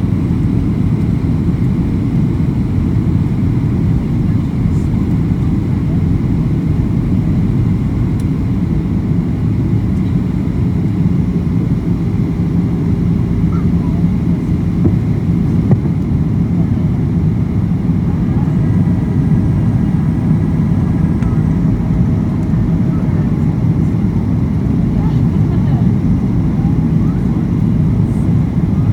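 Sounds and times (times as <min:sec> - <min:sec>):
airliner cabin rumble: 0:00.0 - 0:28.9
steady low hum: 0:00.0 - 0:28.9.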